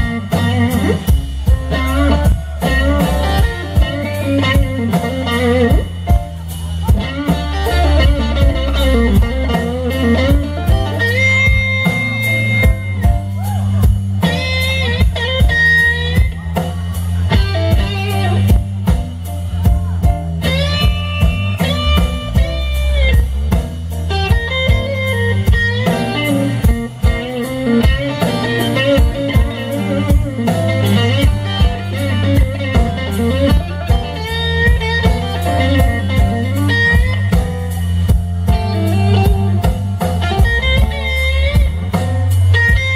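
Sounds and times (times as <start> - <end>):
drum kit: 0.0 - 42.9
electric bass: 0.0 - 42.9
electric guitar solo: 0.0 - 42.9.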